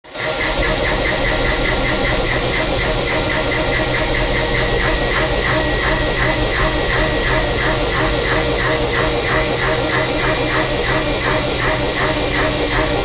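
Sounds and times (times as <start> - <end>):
cutter pulsing: 0.1 - 13.0
milling machine spindle whine: 0.1 - 13.0.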